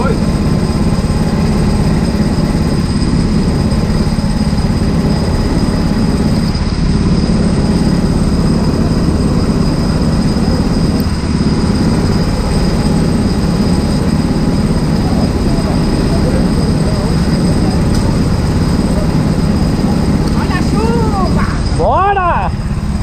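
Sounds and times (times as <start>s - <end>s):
kart engine running: 0.0s - 23.0s.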